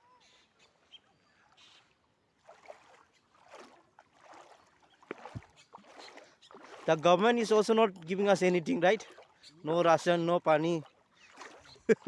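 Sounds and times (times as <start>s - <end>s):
water swishes from paddling: 1.1s - 12.0s.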